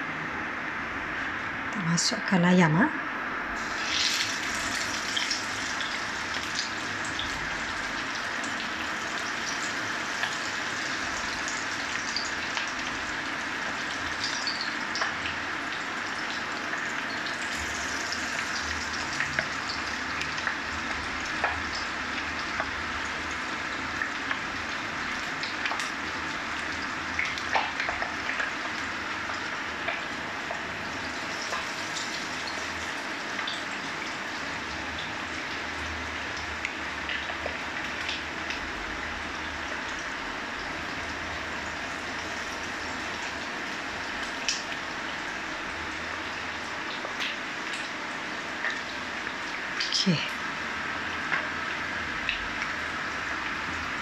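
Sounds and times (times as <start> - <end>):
chicken sizzling in hot oil: 3.6 - 54.0.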